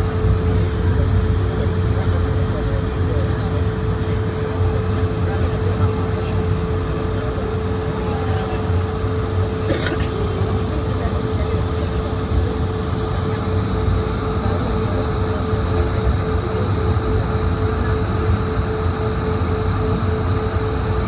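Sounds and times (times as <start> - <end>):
aircraft cabin rumble: 0.0 - 21.0
constant hum: 0.0 - 21.0.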